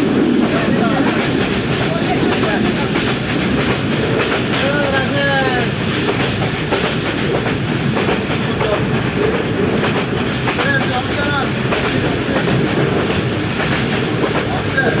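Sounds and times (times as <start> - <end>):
train wheels rumbling and rattling: 0.0 - 15.0.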